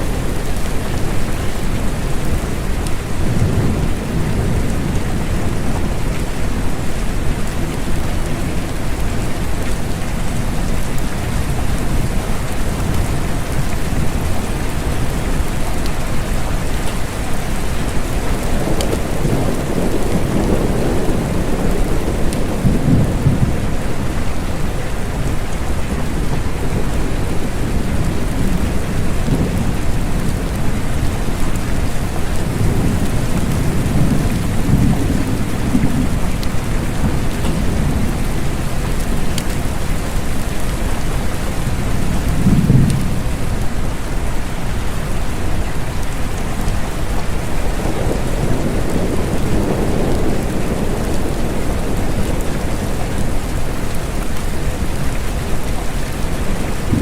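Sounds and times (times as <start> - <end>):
distant thunder rumbling: 0.0 - 40.4, 41.6 - 44.1, 46.6 - 57.0
steady rain: 0.0 - 57.0.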